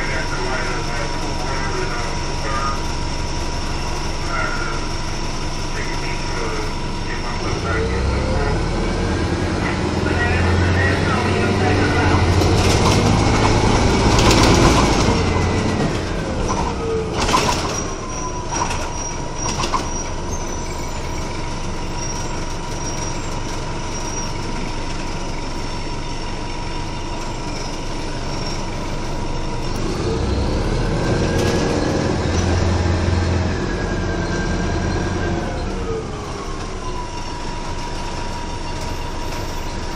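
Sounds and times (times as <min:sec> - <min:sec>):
bus engine whine: 0:00.0 - 0:39.9.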